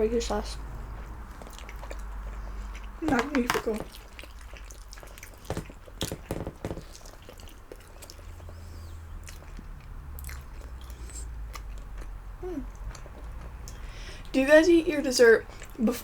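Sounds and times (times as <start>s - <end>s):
chewing: 0.8s - 14.4s, 15.4s - 16.0s.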